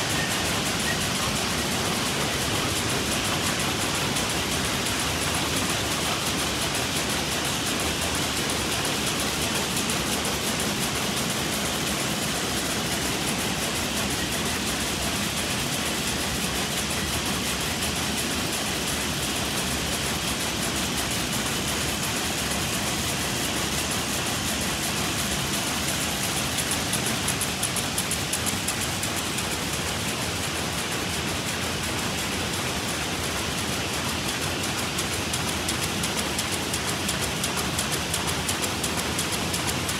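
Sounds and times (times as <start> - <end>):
weaving looms clattering: 0.0 - 39.9.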